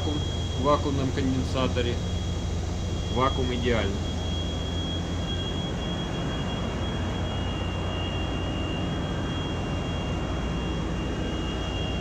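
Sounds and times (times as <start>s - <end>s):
constant low machinery hum: 0.0s - 12.0s
thin high whines: 0.0s - 12.0s.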